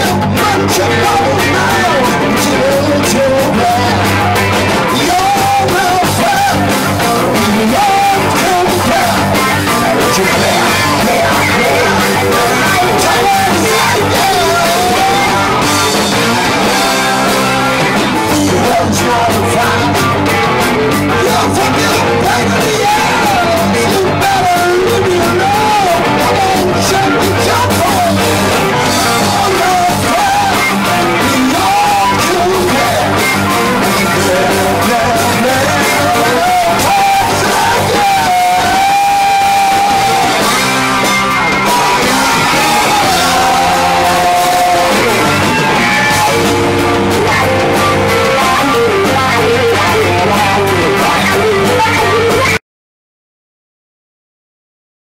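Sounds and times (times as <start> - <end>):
bass guitar: 0.0 - 52.6
drum kit: 0.0 - 52.6
electric guitar: 0.0 - 52.6
person singing: 0.0 - 52.6.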